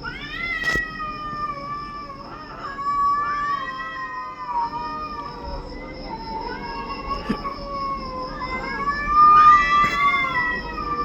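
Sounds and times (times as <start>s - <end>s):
cat meowing: 0.0s - 11.0s.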